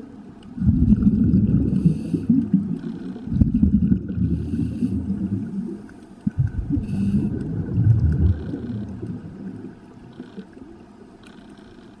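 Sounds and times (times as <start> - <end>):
underwater regulator bubbling: 0.5 - 10.6.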